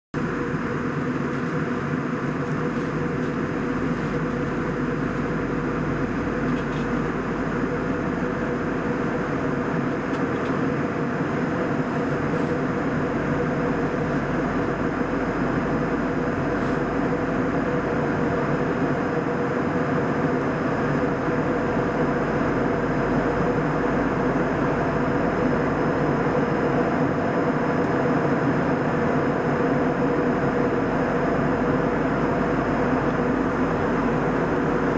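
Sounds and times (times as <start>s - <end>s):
airliner cabin drone: 0.2s - 34.9s
faint high whine: 0.2s - 34.9s.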